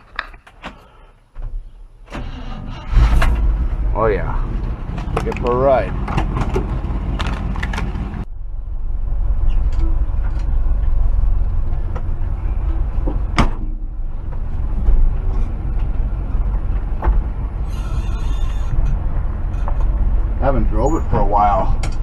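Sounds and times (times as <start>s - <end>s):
pickup truck engine and road noise: 2.2s - 22.0s.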